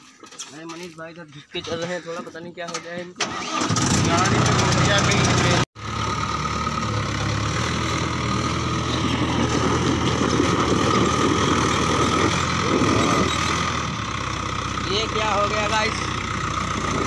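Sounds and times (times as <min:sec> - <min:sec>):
tractor diesel engine running: 0:03.2 - 0:17.0.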